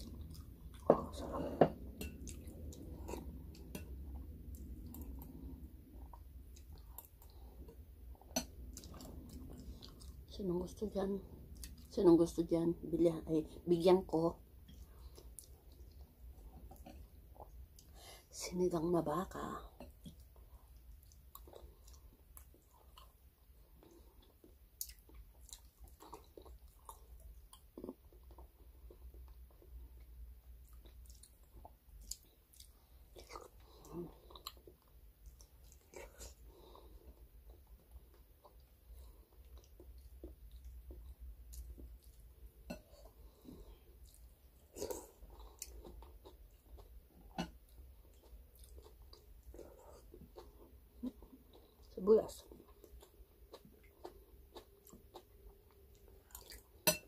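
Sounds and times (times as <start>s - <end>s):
faint chewing: 0.0s - 12.0s, 14.3s - 18.0s, 19.7s - 57.0s.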